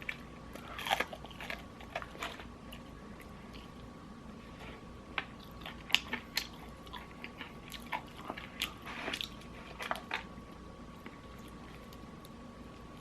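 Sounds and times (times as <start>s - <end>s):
crunching and chewing fried chicken: 0.0s - 4.0s, 4.6s - 13.0s.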